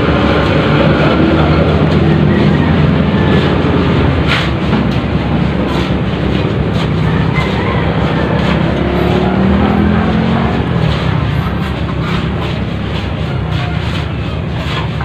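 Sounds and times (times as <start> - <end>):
engine running: 0.0 - 15.0
knocks and scrapes: 0.0 - 15.0.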